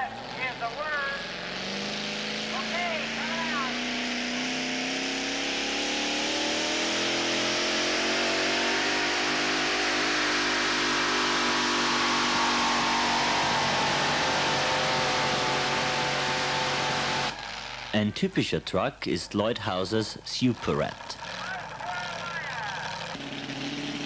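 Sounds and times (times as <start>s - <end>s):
truck engine running flat out: 0.0s - 24.0s.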